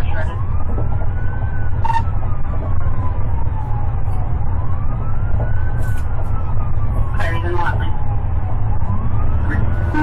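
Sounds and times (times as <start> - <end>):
car engine and road rumble: 0.0 - 10.0
police siren wailing: 0.0 - 10.0.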